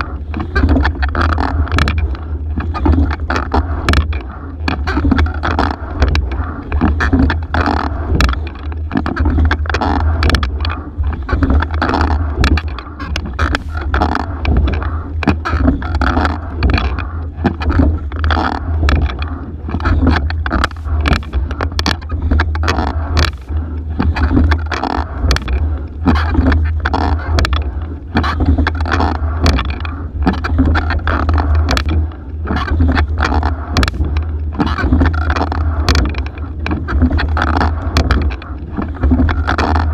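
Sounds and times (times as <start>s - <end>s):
oars clunking in oarlocks: 0.0s - 39.9s
steady low rumble: 0.0s - 39.9s
water rushing along hull: 0.0s - 39.9s.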